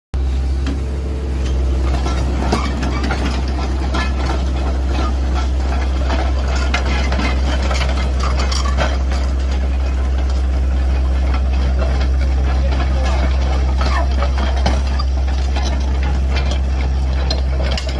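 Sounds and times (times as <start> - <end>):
truck engine idling: 0.2 - 17.9.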